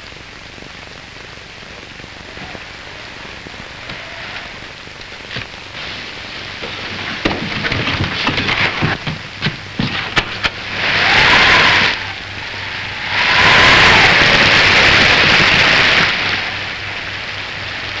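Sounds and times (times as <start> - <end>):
wind and rain gusts: 0.0 - 18.0
whistling wind: 1.0 - 18.0.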